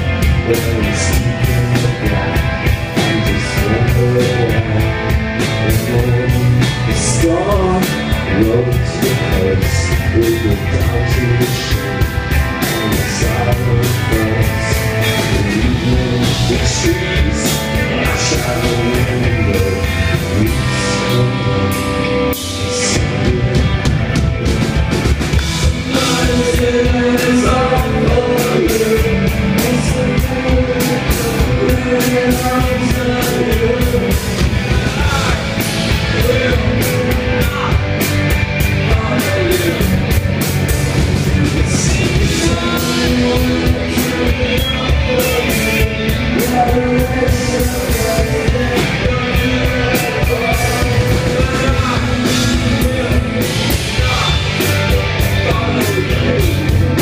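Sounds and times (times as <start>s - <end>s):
man singing into a microphone: 0.0s - 23.7s, 25.6s - 40.1s, 41.3s - 57.0s
bass guitar: 0.0s - 57.0s
drums: 0.0s - 57.0s
electric guitar: 0.0s - 57.0s.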